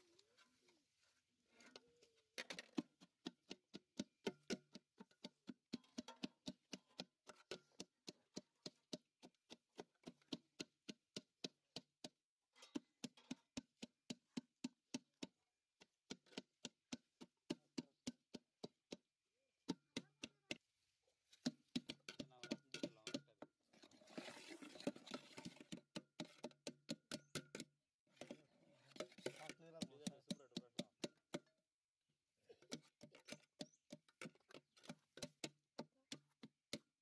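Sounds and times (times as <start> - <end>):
masher pounding apples in a pot: 2.4 - 31.7, 32.5 - 37.0.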